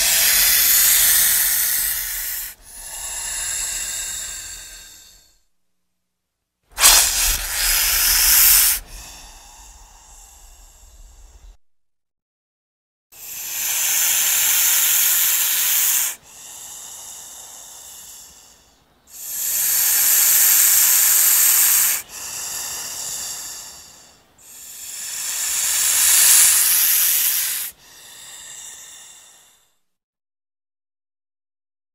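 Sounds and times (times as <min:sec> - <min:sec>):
snake hissing: 0:00.0 - 0:05.4, 0:06.7 - 0:11.6, 0:13.2 - 0:29.7.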